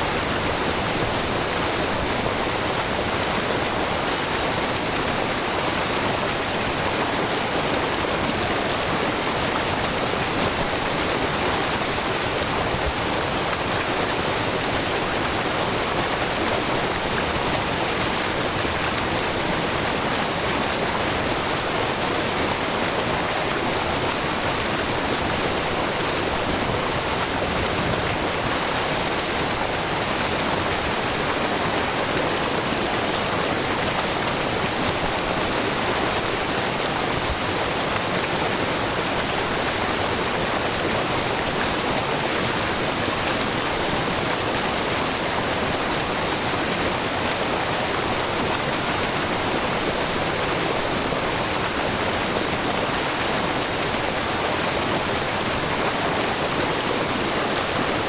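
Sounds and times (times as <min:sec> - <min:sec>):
waterfall splashing: 0:00.0 - 0:58.0.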